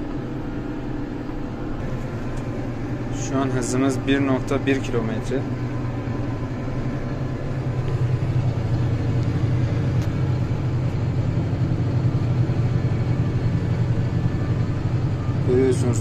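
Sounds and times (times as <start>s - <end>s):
hay chopper rumble: 0.0s - 16.0s
tractor engine drone: 0.0s - 16.0s.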